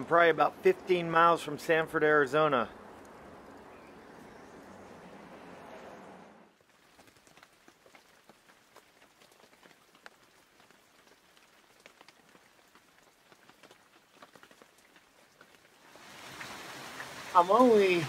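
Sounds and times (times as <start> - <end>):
faint rain ticking: 0.0 - 5.4, 6.6 - 18.0.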